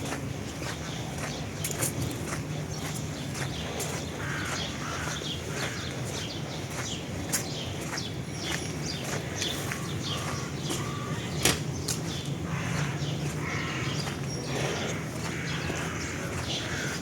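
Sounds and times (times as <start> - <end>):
low outdoor hum: 0.0 - 17.0
small birds chirping: 0.0 - 17.0.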